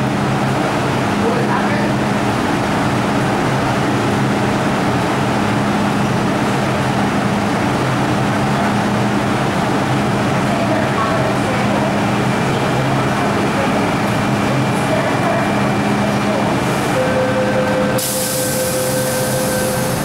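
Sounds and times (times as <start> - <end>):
metro station hum and rushing: 0.0 - 20.0.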